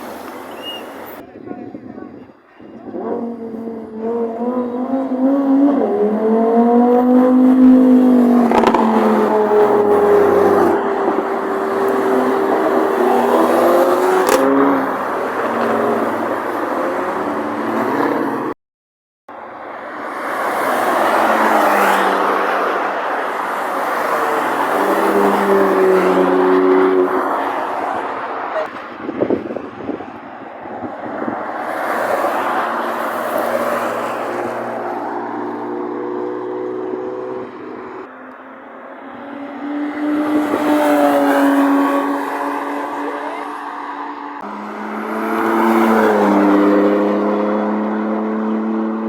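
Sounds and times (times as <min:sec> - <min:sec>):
car engines revving: 0:02.6 - 0:18.6, 0:19.4 - 0:49.0.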